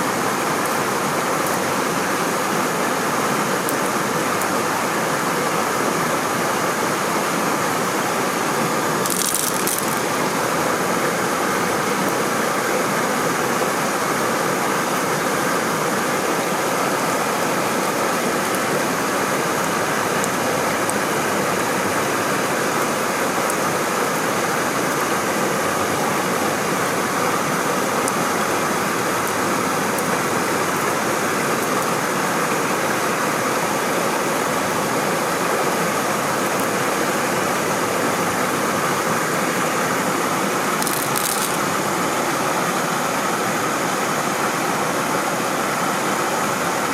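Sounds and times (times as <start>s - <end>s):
waterfall and stream rushing: 0.0s - 46.9s.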